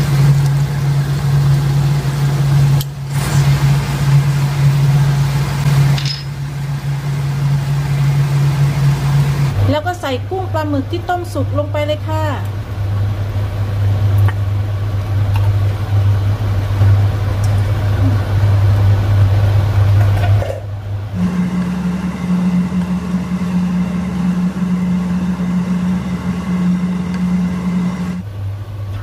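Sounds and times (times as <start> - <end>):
kitchen appliance humming: 0.0 - 29.0.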